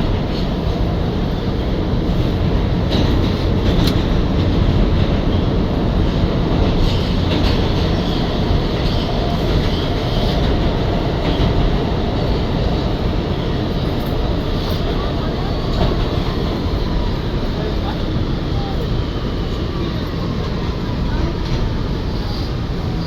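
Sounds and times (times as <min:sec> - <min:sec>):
wheels rumbling on rails: 0:00.0 - 0:23.0.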